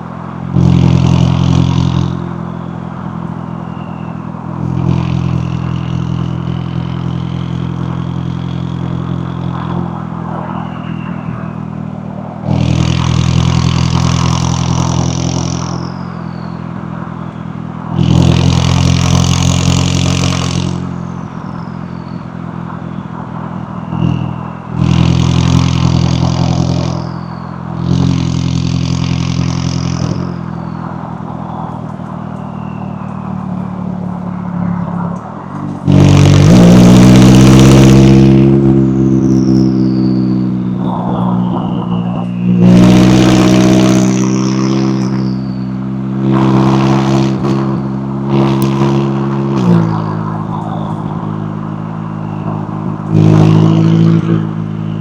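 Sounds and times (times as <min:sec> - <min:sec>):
car engine and exhaust running: 0:00.0 - 0:55.0
high turbo whine: 0:00.0 - 0:55.0.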